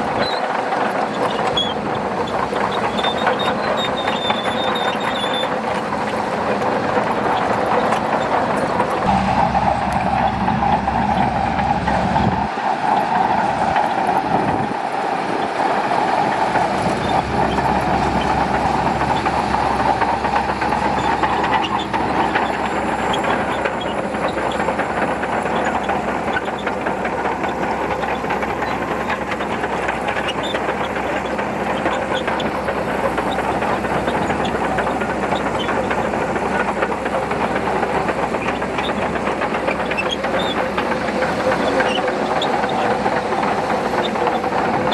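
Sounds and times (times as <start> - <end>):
bulldozer diesel engine running: 0.0 - 44.9
steel tracks clattering: 0.0 - 44.9.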